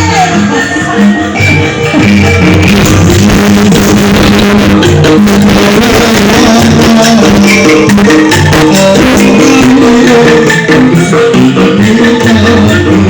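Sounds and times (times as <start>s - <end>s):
held melodic notes: 0.0s - 13.0s
percussion beat: 0.0s - 13.0s.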